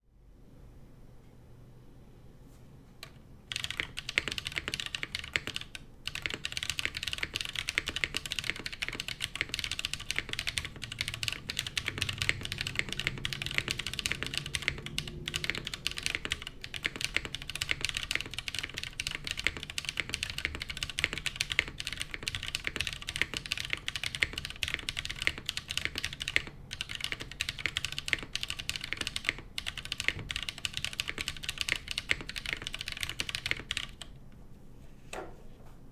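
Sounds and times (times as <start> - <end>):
fast typing on mechanical keyboard: 3.0 - 34.2.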